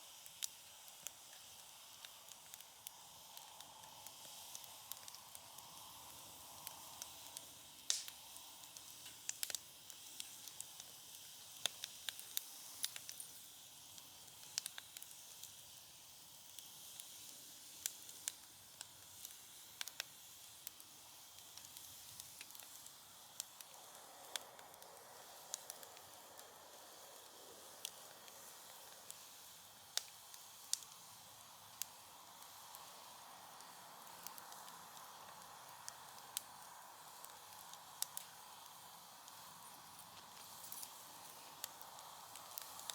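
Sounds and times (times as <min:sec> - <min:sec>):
soft fire hiss: 0:00.0 - 0:42.9
wood fire crackling and popping: 0:00.2 - 0:42.9.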